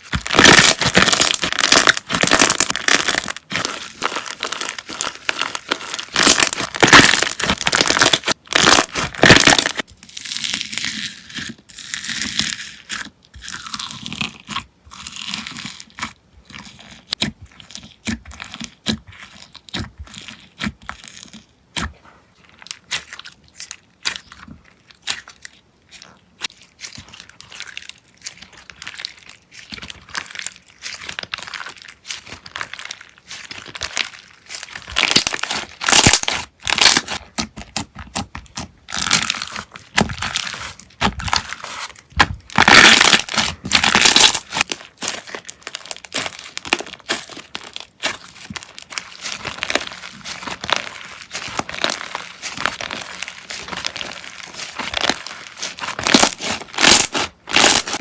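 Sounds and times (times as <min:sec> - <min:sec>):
slime crackling by hand: 0:00.0 - 0:13.4, 0:15.3 - 0:58.0.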